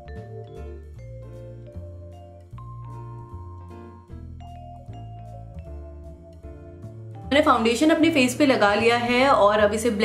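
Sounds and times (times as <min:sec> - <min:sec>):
background music with bass line: 0:00.0 - 0:09.8.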